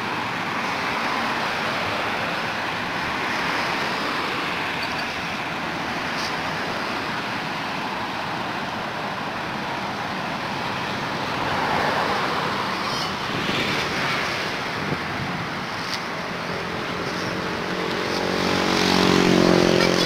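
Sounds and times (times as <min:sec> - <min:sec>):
outdoor background roar: 0:00.0 - 0:20.0.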